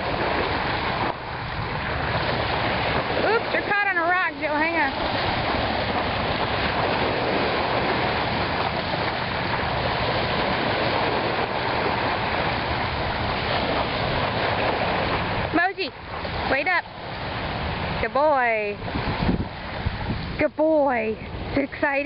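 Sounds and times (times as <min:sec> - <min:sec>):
small waves on pebbly shore: 0:00.0 - 0:22.0.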